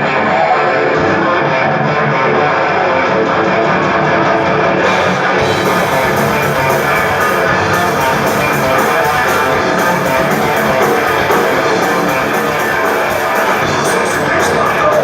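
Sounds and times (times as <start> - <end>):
loud live rock music: 0.0 - 15.0.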